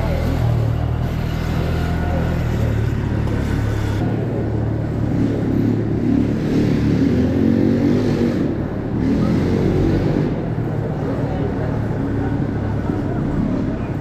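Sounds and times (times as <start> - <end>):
motorbike engines revving: 0.0 - 14.0
wind and road rumble: 0.0 - 14.0.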